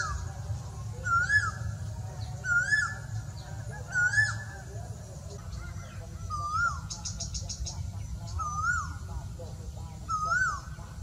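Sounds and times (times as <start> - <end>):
bird calling: 0.0 - 11.0
steady low rumble: 0.0 - 11.0.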